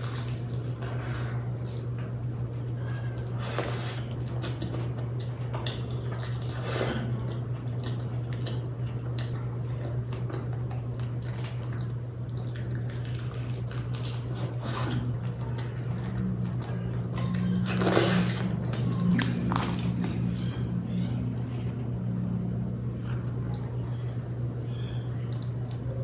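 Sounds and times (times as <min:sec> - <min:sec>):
close chewing with mouth clicks: 0:00.0 - 0:21.8
low hum: 0:00.0 - 0:26.0.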